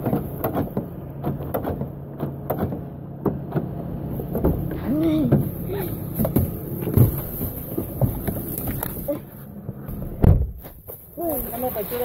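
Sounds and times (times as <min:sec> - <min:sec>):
car door shutting: 0:00.0 - 0:10.8
knocks and handling noise: 0:00.0 - 0:11.1.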